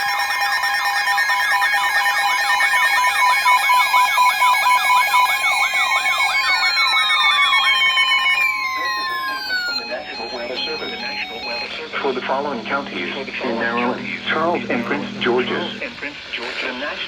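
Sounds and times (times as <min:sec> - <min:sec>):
siren long falling glides: 0:00.0 - 0:14.6
electronic siren yelp: 0:00.0 - 0:15.8
steady alarm tones: 0:00.0 - 0:16.5.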